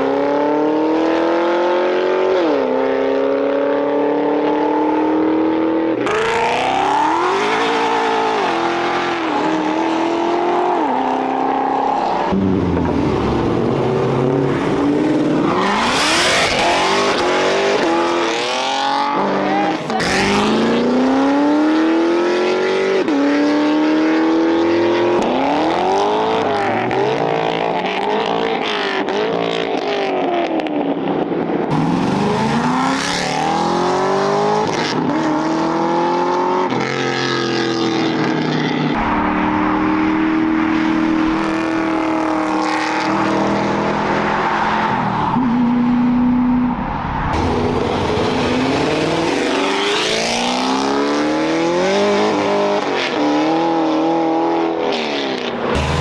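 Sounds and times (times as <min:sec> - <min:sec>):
car engines revving and accelerating: 0:00.0 - 0:56.0.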